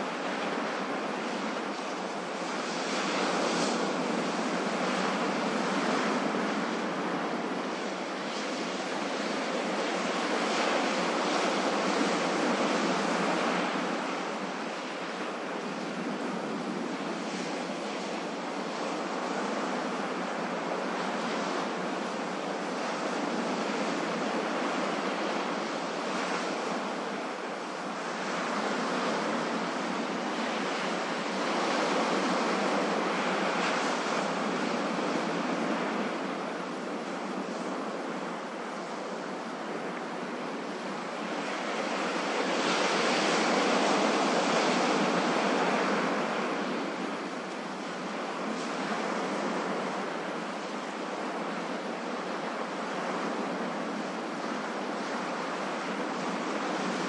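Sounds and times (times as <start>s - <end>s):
ocean waves on shore: 0.0s - 57.0s.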